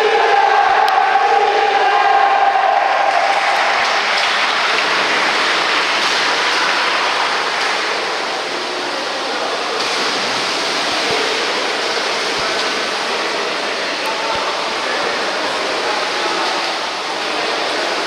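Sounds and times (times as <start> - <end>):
water churning and splashing: 0.0 - 18.0.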